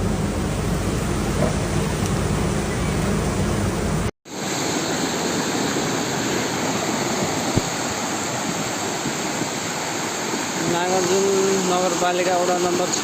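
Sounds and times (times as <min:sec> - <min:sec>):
flooded stream rushing: 0:00.8 - 0:13.0.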